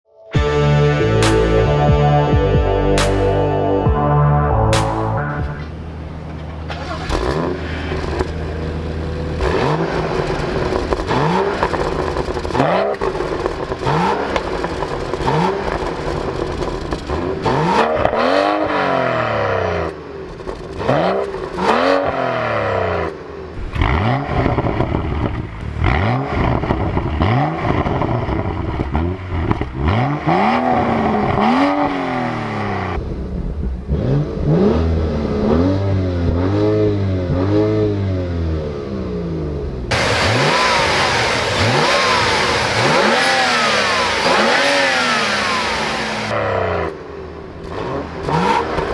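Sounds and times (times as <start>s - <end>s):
car engine revving: 0.4s - 48.9s.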